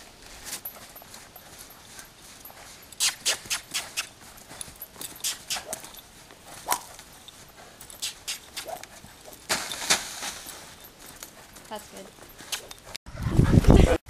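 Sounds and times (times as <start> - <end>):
horse hoofbeats on dirt: 0.0 - 13.7.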